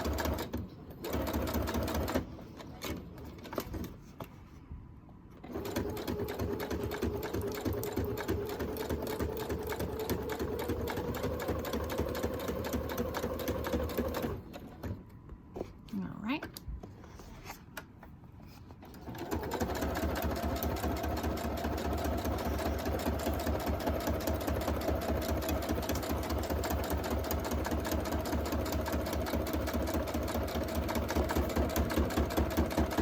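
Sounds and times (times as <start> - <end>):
sewing machine stitching: 0.0 - 4.0, 5.4 - 15.0, 18.8 - 33.0.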